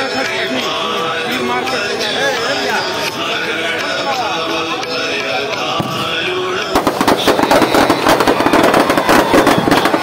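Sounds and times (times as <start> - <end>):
crowd voices: 0.0 - 10.0
firecrackers crackling: 0.0 - 10.0.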